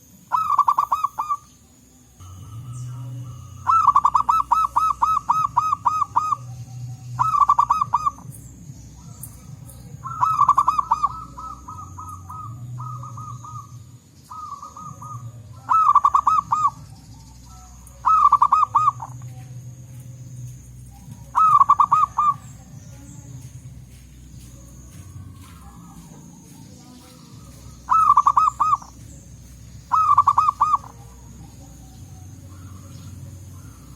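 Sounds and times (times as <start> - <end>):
doves cooing: 0.0 - 33.9.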